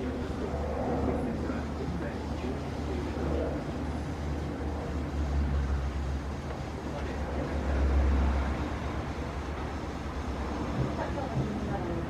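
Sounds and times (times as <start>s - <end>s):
propeller plane droning overhead: 0.0s - 12.0s.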